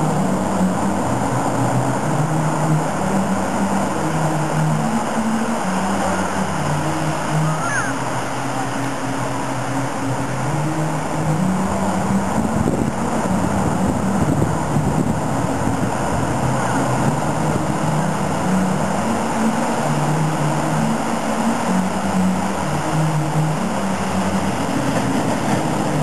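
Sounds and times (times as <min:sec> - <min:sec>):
low hum: 0:00.0 - 0:26.0
small waves breaking: 0:00.0 - 0:26.0.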